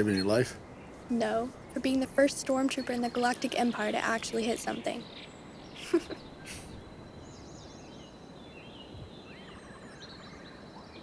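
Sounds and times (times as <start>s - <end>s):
birds chirping and warbling: 0.0s - 11.0s
soft hiss: 0.0s - 11.0s.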